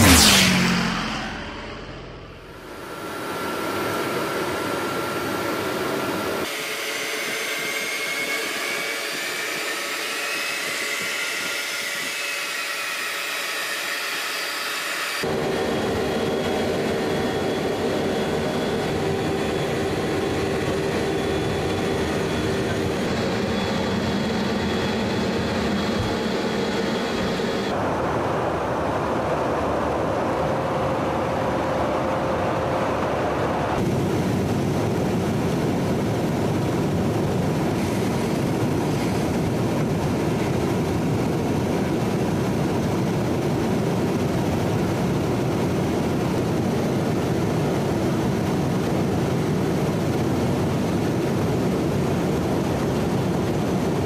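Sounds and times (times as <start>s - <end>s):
jet engines rushing and whining: 0.0s - 54.0s.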